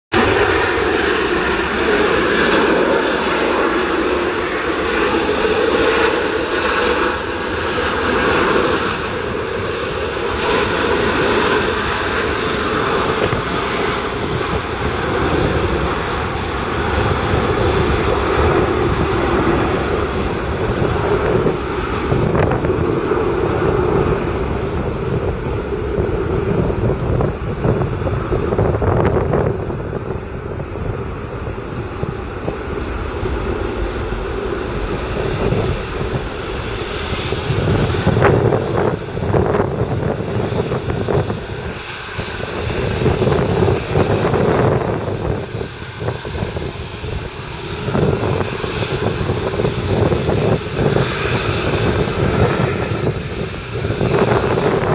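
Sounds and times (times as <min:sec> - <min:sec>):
jet engines rumbling: 0:00.0 - 0:54.9.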